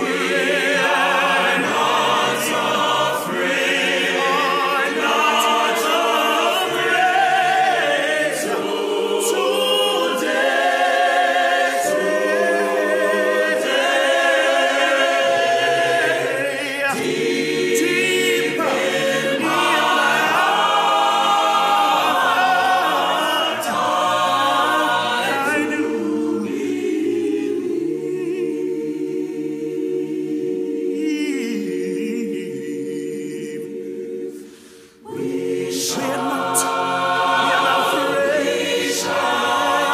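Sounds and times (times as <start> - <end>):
mixed choir singing a cappella: 0.0 - 39.9.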